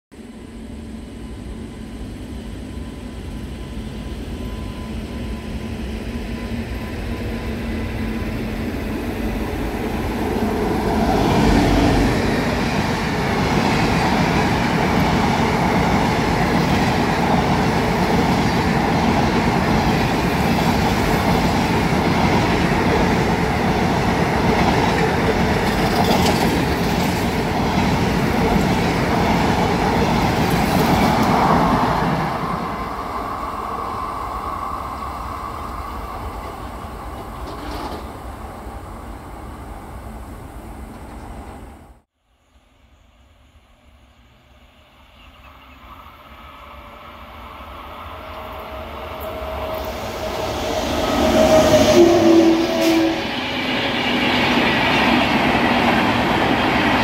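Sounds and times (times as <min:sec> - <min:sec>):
train wheels rumbling on rail: 0:00.6 - 0:42.1, 0:45.2 - 0:57.0.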